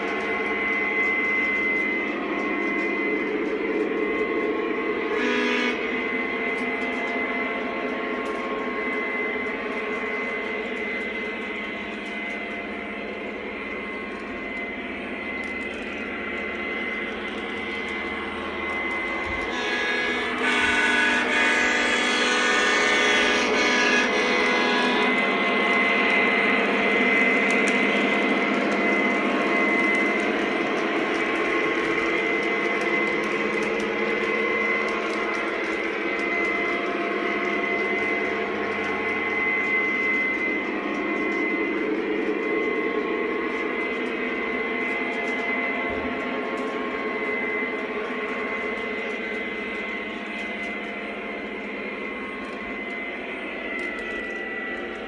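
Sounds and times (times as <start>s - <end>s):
model train rumble and whine: 0.0s - 55.0s.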